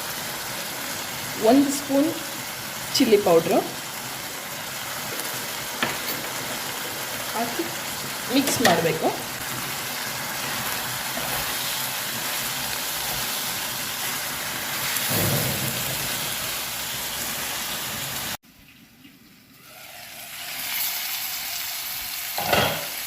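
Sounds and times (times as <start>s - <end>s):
meat sizzling in a pan: 0.0s - 18.4s, 19.4s - 23.0s.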